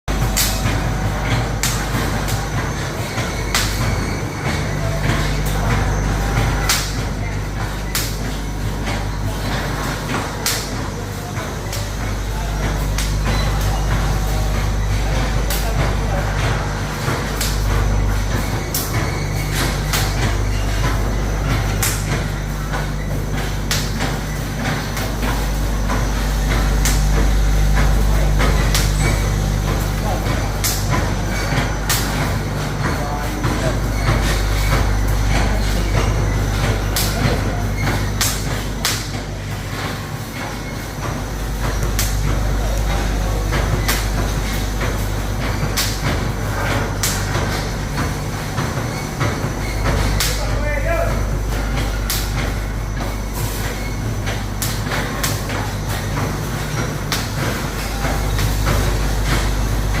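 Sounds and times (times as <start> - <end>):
machine electrical hum: 0.0 - 60.0
sharp machine clacks: 0.1 - 60.0.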